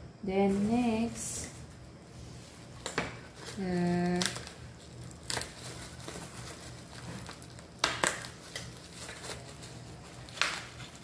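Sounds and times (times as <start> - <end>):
bubble wrap crinkling: 1.5 - 11.0.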